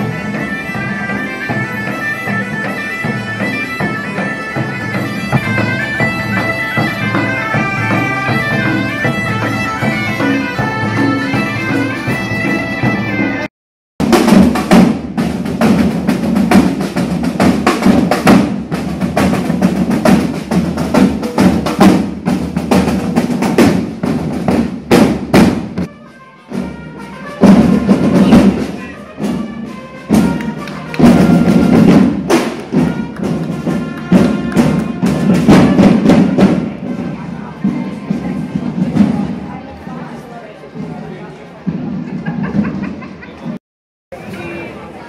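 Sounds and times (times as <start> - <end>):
marching field drums: 0.0 - 43.6.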